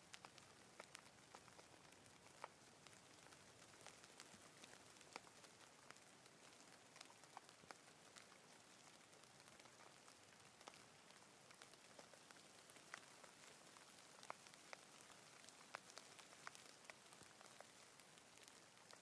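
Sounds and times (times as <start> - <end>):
light rain: 0.0 - 19.0.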